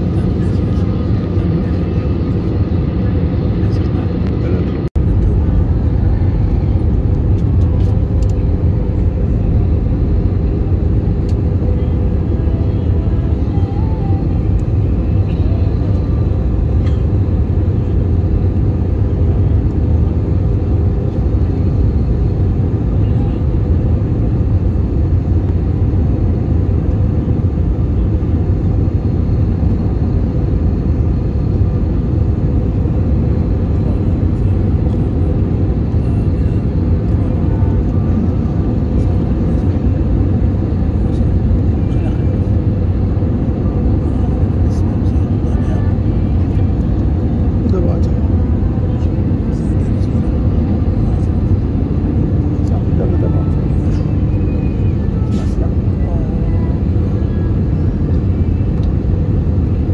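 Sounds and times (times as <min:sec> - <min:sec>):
jet engines and rushing air rumble: 0:00.0 - 0:59.9.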